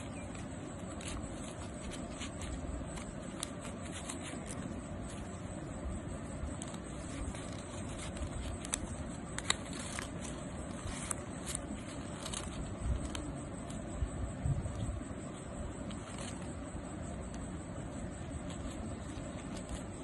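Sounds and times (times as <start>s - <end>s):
paper crackling and rustling: 0.0s - 14.0s, 14.6s - 20.0s
low background rumble: 0.0s - 20.0s.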